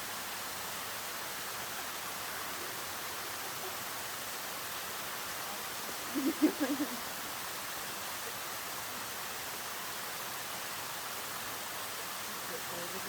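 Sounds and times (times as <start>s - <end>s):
waterfall hissing: 0.0s - 13.0s.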